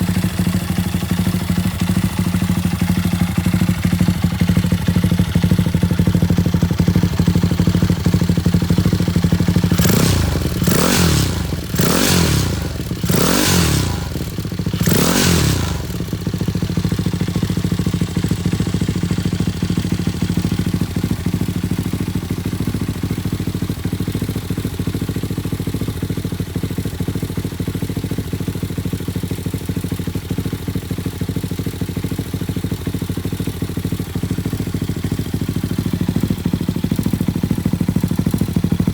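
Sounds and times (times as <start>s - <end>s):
motorcycle engine revving: 0.0s - 27.2s, 27.9s - 38.9s
motorcycle engine idling: 0.0s - 38.9s.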